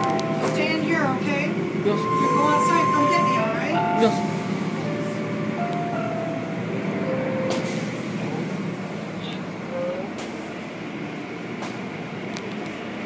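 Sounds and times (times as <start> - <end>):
machinery noise: 0.0 - 10.9.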